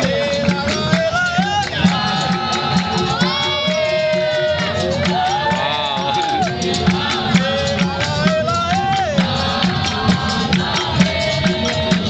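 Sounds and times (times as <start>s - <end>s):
person singing: 0.0s - 10.1s
hand drum beat: 0.0s - 12.0s
hand-clapping: 0.0s - 12.0s.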